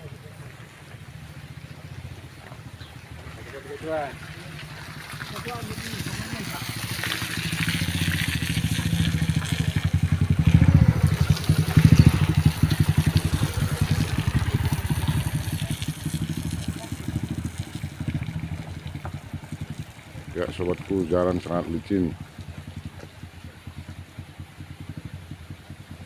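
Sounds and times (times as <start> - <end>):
vehicle engine running hard: 0.0 - 26.0.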